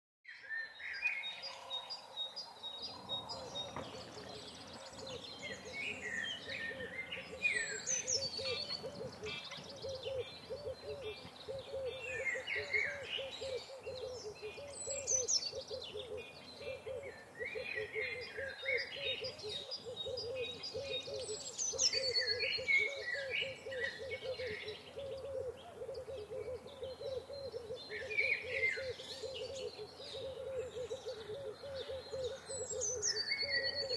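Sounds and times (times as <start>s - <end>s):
bird chirping: 0.3s - 33.9s.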